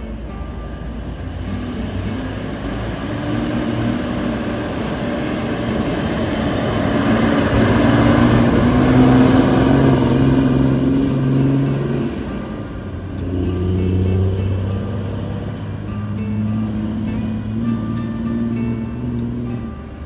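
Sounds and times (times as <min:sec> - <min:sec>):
bus engine passing by: 0:00.0 - 0:20.0.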